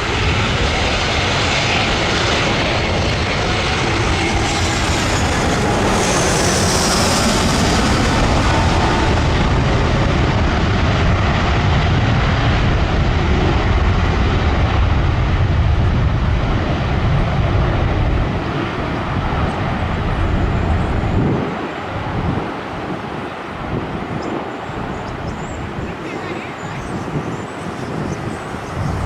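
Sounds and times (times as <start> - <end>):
jet airliner engines rumbling: 0.0 - 29.0.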